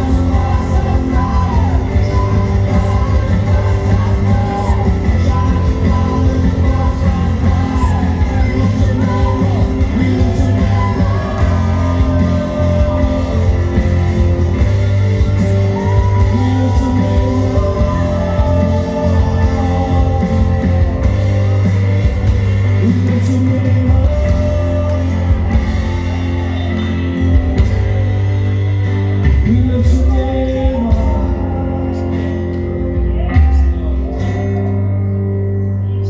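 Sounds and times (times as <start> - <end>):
sustained bass: 0.0 - 36.0
voices singing: 0.0 - 36.0
worship band playing: 0.0 - 36.0.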